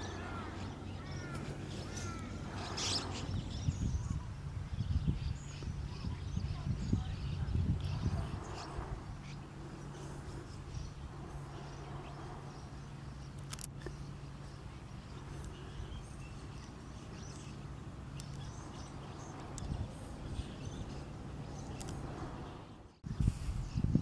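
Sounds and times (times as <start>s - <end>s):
birds chirping faintly: 0.0s - 24.0s
steady low hum: 0.0s - 24.0s.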